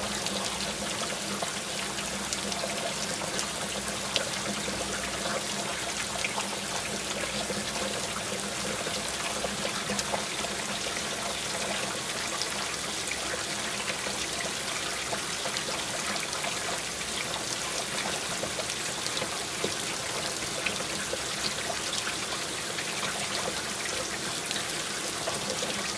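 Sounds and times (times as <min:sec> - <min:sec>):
trickling water: 0:00.0 - 0:25.9.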